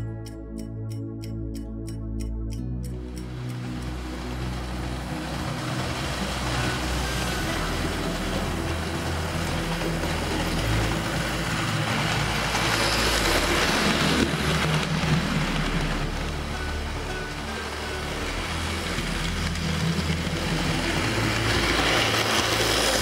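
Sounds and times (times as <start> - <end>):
sustained keyboard chords: 0.0 - 23.0
model train rolling rumble: 3.0 - 23.0.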